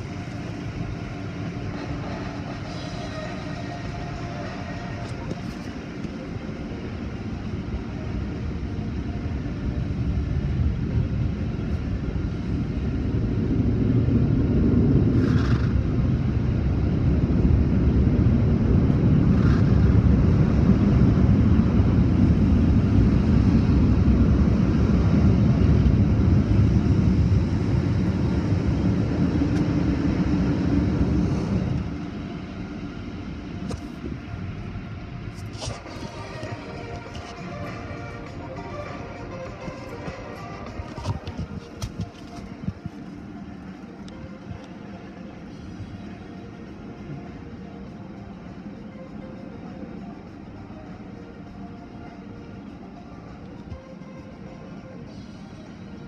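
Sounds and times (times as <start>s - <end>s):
car wash machinery rumble: 0.0s - 56.0s.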